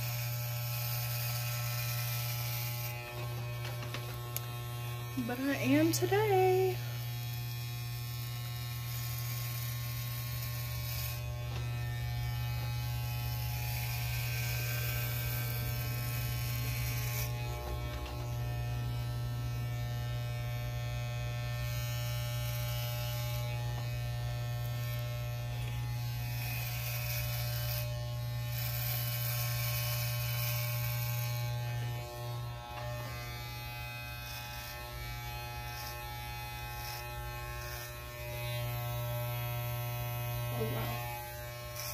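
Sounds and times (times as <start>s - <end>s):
electric hair clippers buzzing: 0.0s - 41.9s.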